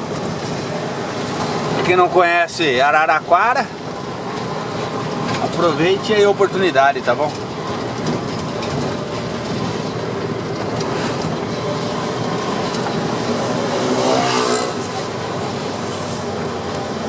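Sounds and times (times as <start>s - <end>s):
loud diesel truck engine: 0.0s - 17.0s.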